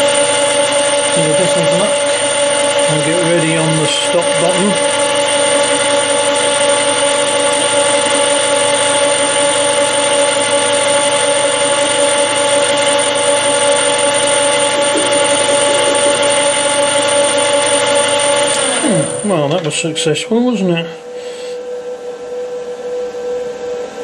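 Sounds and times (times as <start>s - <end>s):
metal lathe whining: 0.0s - 22.9s.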